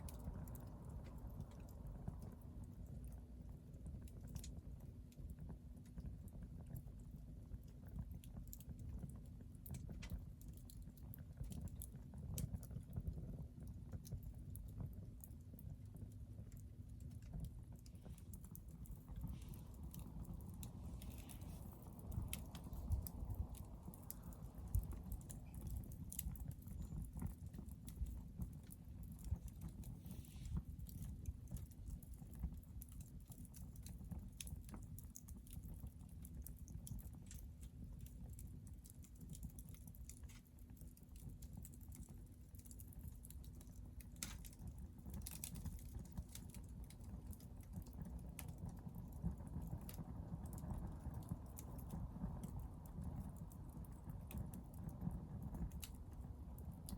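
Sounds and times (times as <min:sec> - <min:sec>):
low steady rumble: 0:00.0 - 0:56.9
wood fire crackling: 0:00.0 - 0:56.9.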